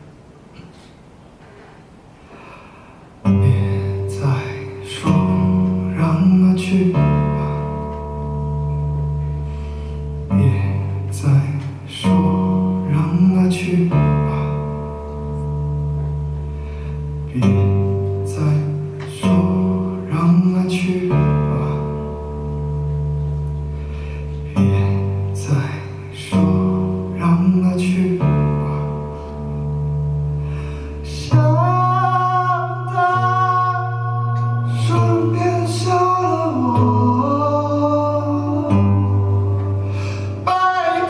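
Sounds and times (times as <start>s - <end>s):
acoustic guitars playing chords: 2.1s - 41.0s.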